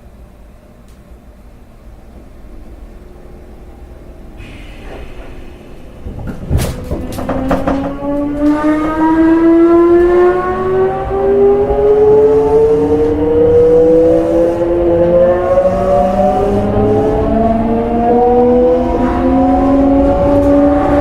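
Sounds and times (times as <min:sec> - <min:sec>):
rumble of train running gear: 0:00.0 - 0:21.0
train inverter whining: 0:00.0 - 0:21.0.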